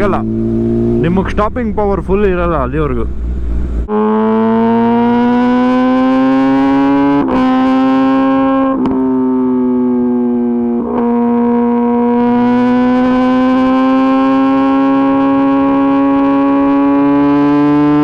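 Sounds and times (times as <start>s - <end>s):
motorcycle engine accelerating: 0.0s - 1.6s, 3.0s - 18.0s.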